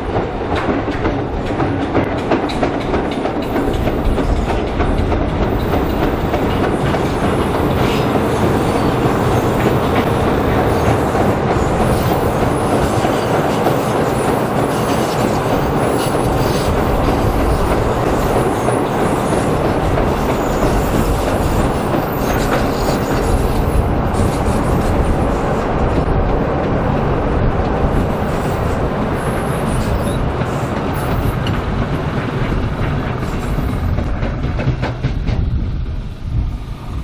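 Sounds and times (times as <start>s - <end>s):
train wheels clattering on rails: 0.0s - 37.0s.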